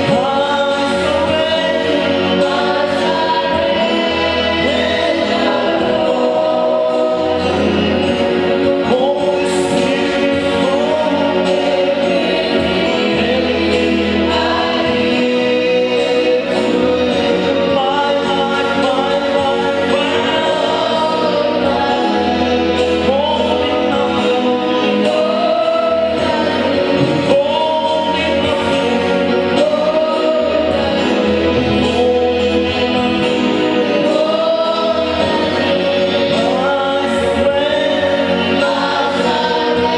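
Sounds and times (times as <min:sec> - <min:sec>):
choir singing gospel song: 0:00.0 - 0:39.9
low sustained bass notes: 0:00.0 - 0:39.9.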